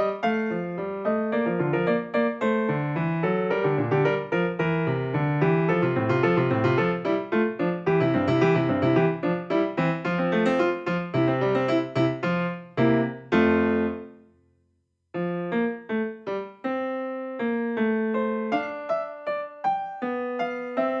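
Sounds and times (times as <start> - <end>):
piano music: 0.0 - 14.3, 15.2 - 21.0.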